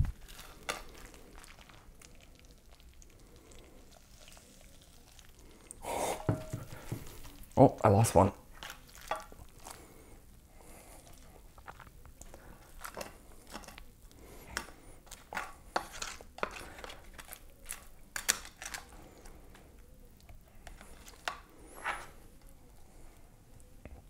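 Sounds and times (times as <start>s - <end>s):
soft squishes of pasta: 0.0s - 24.0s.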